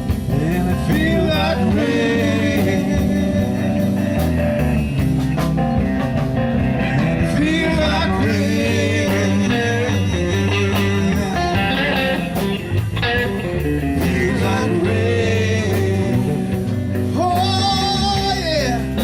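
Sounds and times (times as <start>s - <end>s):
blues-rock band with guitar: 0.0s - 19.0s.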